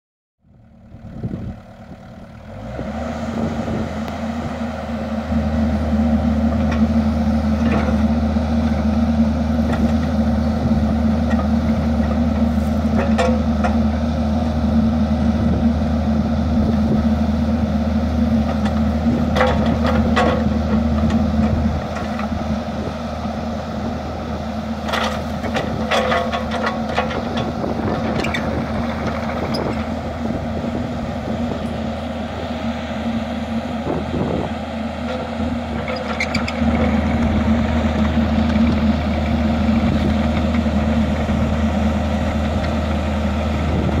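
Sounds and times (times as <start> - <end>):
excavator diesel engine: 0.4 - 44.0.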